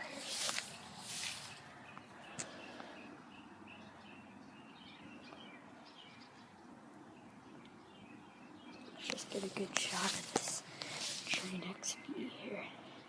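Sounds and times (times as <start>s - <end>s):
faint birds chirping: 0.0s - 13.0s
outdoor background hiss: 0.0s - 13.0s.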